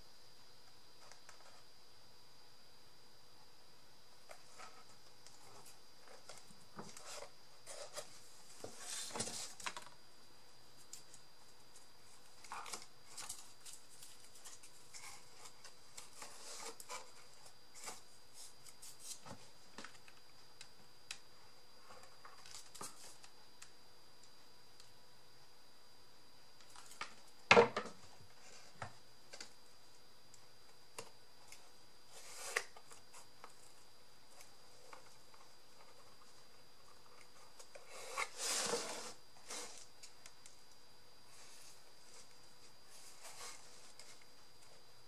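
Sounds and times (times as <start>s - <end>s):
faint steady high whine: 0.0s - 45.0s.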